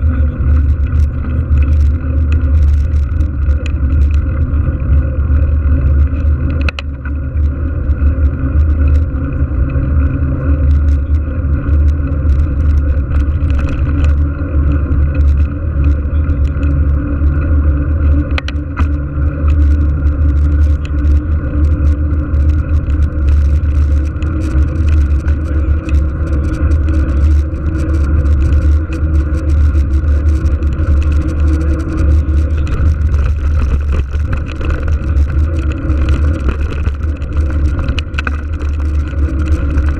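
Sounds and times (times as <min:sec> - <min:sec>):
bike clicking: 0:00.0 - 0:39.9
tyres rumbling on asphalt: 0:00.0 - 0:39.9
wind buffeting microphone: 0:00.0 - 0:39.9.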